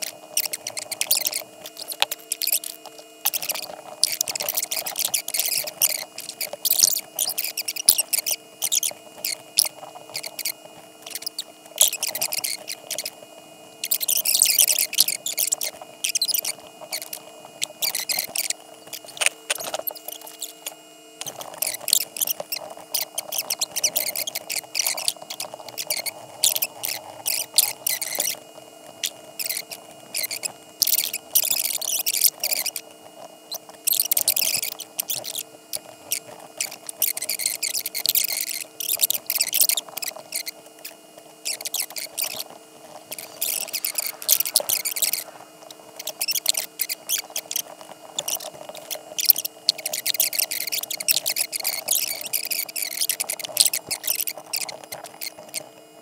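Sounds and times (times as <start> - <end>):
stylus scratching on tablet: 0.0 - 55.7
faint steady hum: 0.0 - 56.0.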